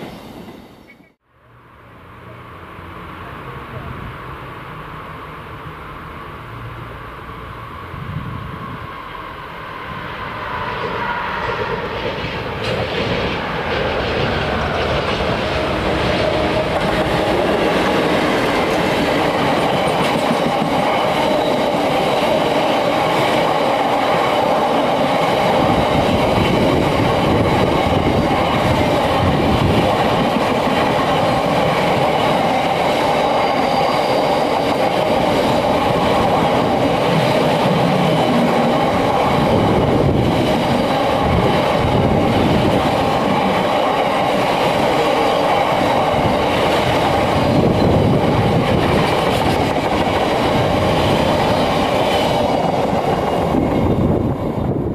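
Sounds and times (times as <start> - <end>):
freight train passing: 0.0 - 54.9.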